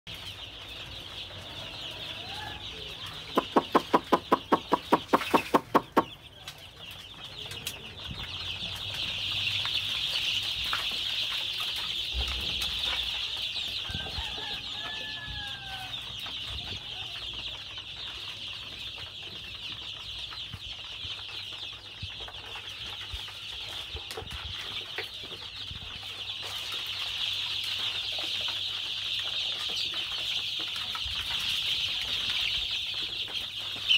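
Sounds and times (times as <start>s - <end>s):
chicks peeping in chorus: 0.1s - 33.9s.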